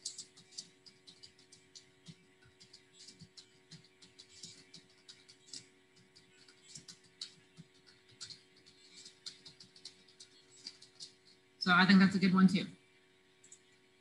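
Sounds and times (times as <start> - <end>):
typing on keyboard: 0.0 - 11.4.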